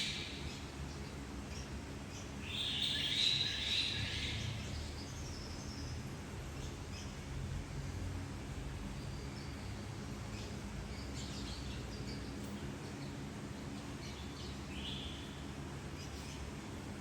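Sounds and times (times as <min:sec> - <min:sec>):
birds chirping: 0:00.0 - 0:07.3, 0:08.9 - 0:17.0
low background hum: 0:00.0 - 0:17.0.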